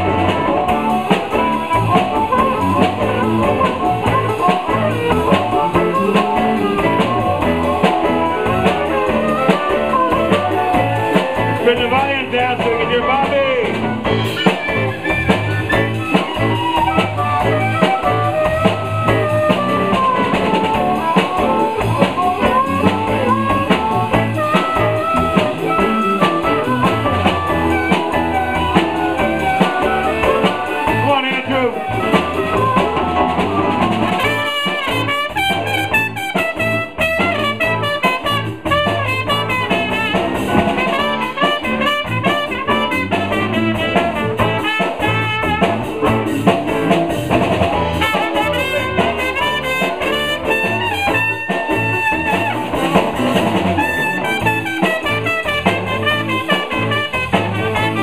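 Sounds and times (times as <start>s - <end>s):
blues band playing: 0.0s - 58.0s
drum kit: 0.0s - 58.0s
trumpet: 0.0s - 58.0s.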